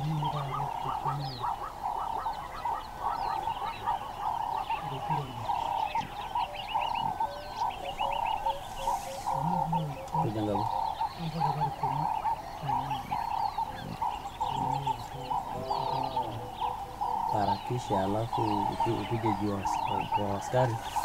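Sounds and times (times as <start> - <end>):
birds chirping: 0.0 - 21.0
frogs trilling: 0.0 - 21.0.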